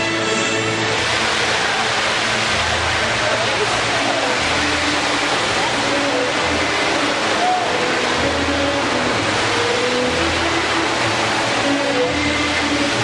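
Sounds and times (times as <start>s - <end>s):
distorted music over sound system: 0.0s - 13.0s.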